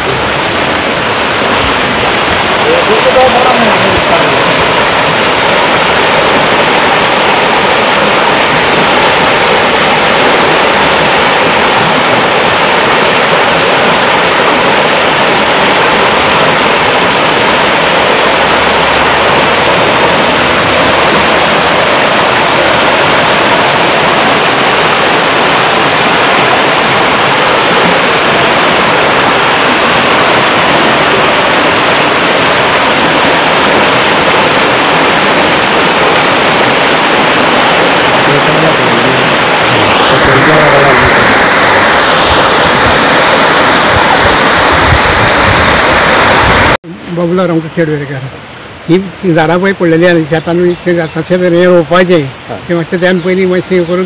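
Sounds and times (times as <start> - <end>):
floodwater rushing through stream: 0.0 - 54.0.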